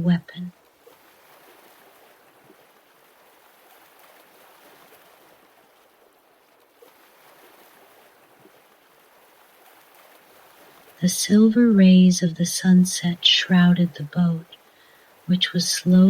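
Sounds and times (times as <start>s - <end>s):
faint sea waves washing: 0.0s - 16.0s.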